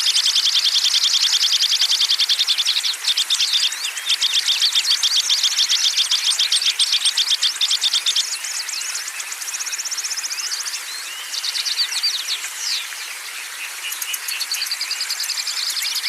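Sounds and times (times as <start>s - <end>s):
songbirds trilling and chirping: 0.0s - 16.0s.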